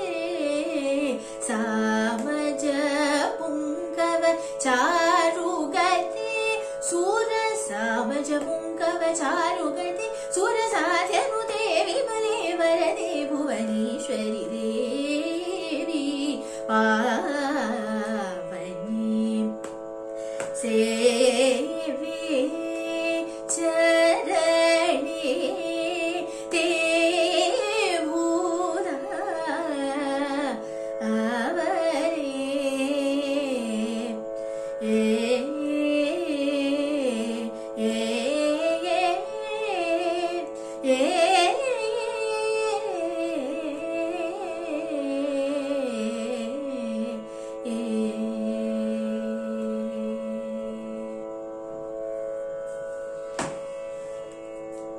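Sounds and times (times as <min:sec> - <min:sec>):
woman singing devotional song: 0:00.0 - 0:51.3.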